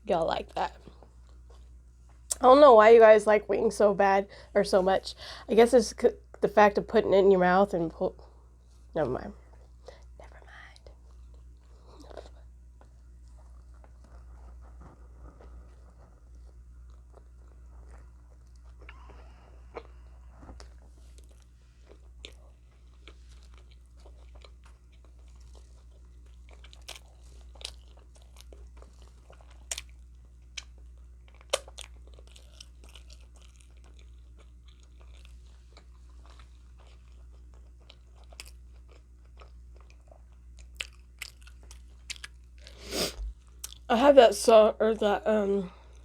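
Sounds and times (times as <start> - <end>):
steady low hum: 0.0 - 46.0
chewing with crunches: 0.1 - 2.4, 8.1 - 43.9.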